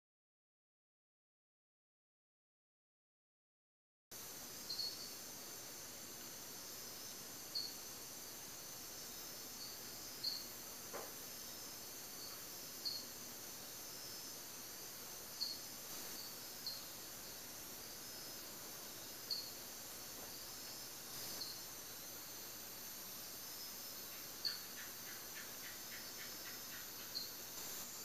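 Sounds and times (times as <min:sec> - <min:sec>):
insects hissing: 0:04.2 - 0:28.0
short high insect chirps: 0:04.4 - 0:28.0.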